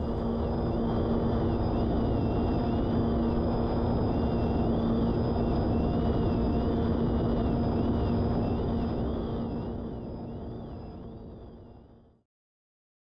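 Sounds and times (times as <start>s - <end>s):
low mechanical rumble: 0.0s - 11.7s
constant-pitch hum: 0.0s - 12.1s.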